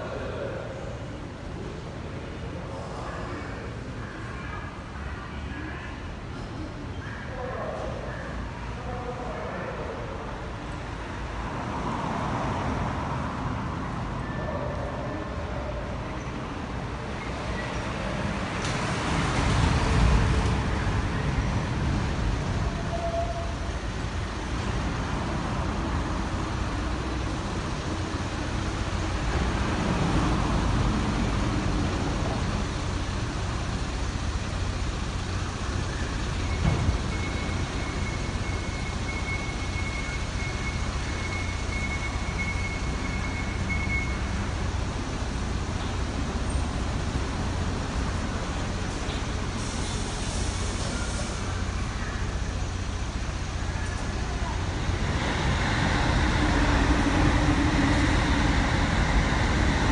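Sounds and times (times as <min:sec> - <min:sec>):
buses idling and moving: 0:00.0 - 0:59.9.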